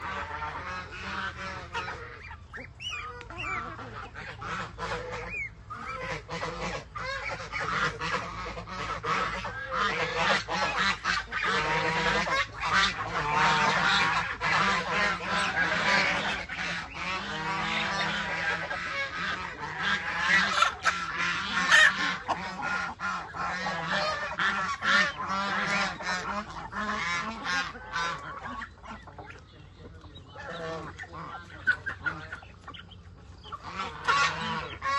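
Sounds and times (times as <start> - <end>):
geese honking: 0.0 - 34.9.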